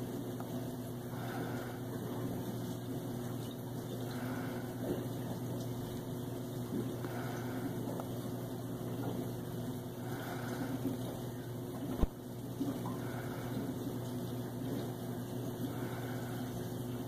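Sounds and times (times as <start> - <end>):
constant hiss: 0.0 - 17.0
low electrical hum: 0.0 - 17.0.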